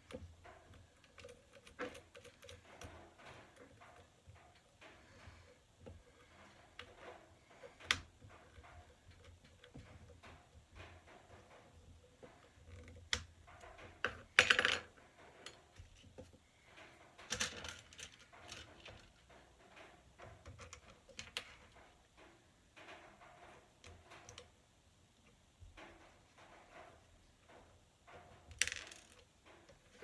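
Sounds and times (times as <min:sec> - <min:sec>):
small hard parts clattering: 0:00.0 - 0:30.0.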